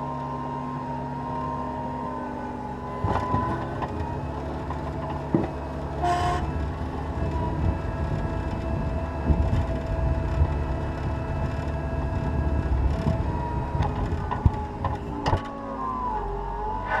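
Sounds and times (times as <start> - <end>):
loader diesel engine running: 0.0 - 17.0.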